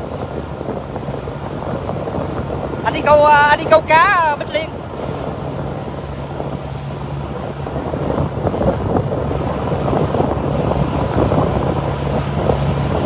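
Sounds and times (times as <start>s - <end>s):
motorboat engine hum: 0.0s - 13.0s
water rushing past hull: 0.0s - 13.0s
wind buffeting microphone: 0.0s - 13.0s.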